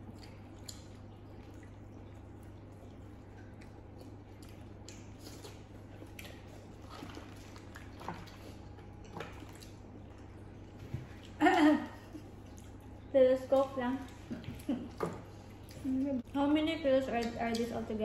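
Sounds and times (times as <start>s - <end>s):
chewing: 0.0s - 18.0s.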